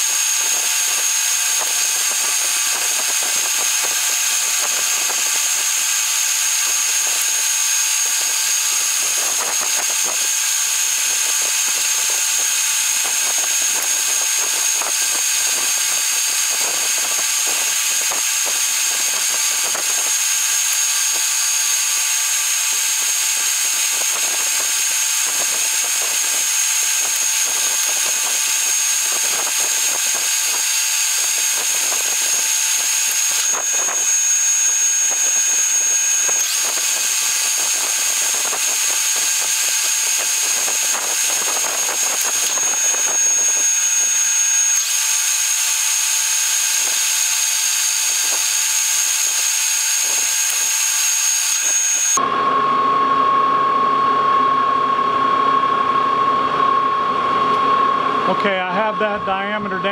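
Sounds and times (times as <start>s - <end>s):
metal lathe high whine: 0.0s - 59.9s.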